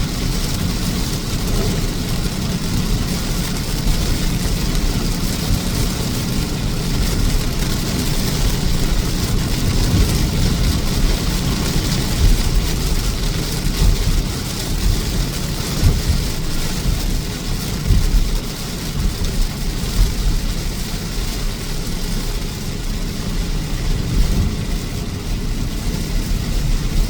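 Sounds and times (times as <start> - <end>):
vehicle low rumble: 0.0 - 27.0.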